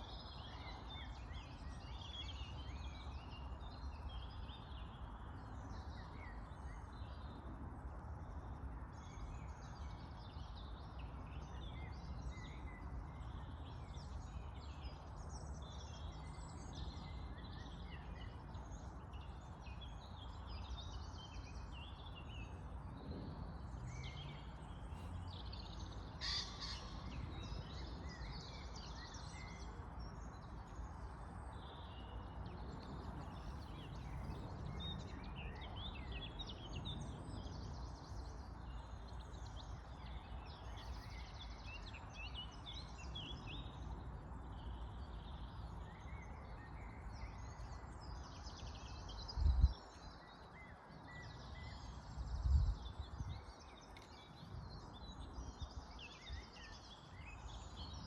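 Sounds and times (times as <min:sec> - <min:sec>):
birds chirping chorus: 0:00.0 - 0:58.0.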